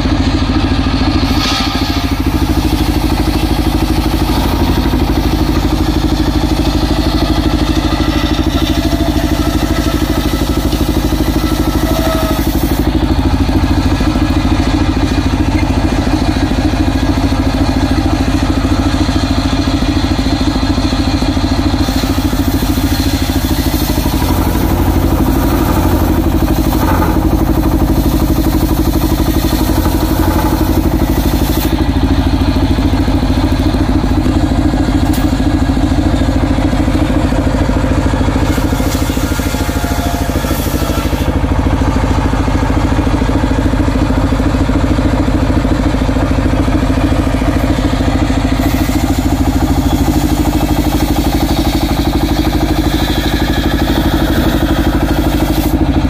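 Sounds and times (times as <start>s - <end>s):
circular saw cutting a log: 0.0s - 56.0s
engine running: 0.0s - 56.0s.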